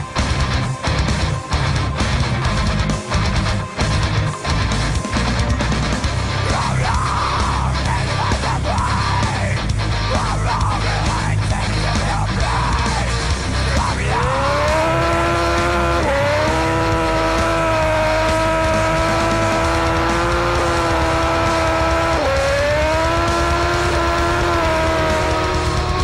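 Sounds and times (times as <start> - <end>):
loud rock music: 0.0 - 26.0
motorcycle engine revving: 0.0 - 26.0.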